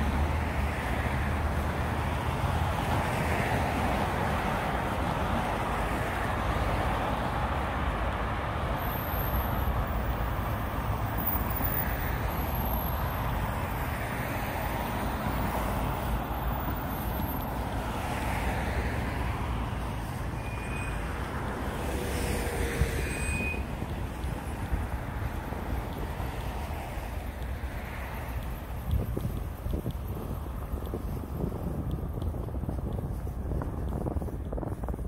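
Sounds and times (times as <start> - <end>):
cars passing with low rumble: 0.0 - 35.0.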